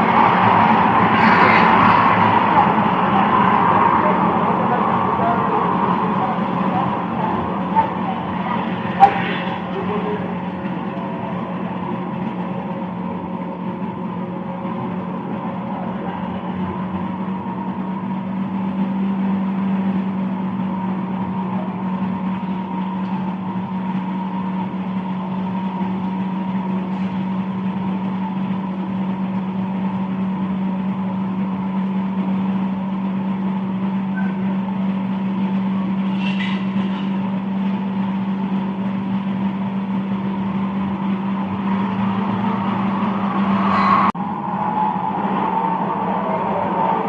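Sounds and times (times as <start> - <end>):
machine hum: 0.0 - 47.0.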